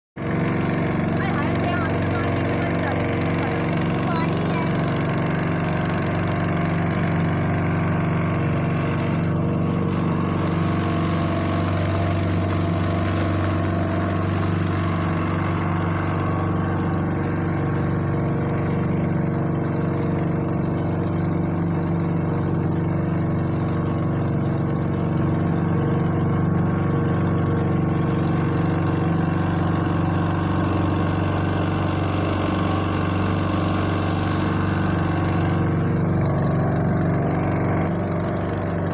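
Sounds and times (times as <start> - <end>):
motorboat engine running: 0.2 - 38.9.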